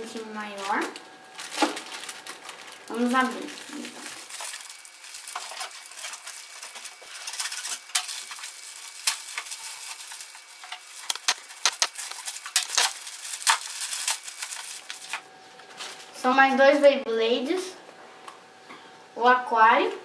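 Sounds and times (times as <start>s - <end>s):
wrapping paper crinkling and tearing: 0.0s - 16.2s.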